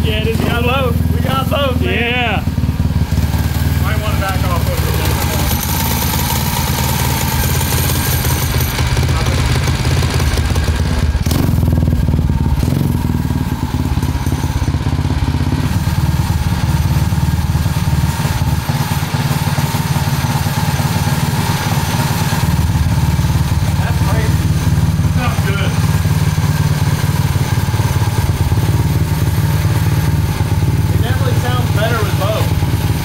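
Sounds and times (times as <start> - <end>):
racing engine running steadily: 0.0 - 33.0.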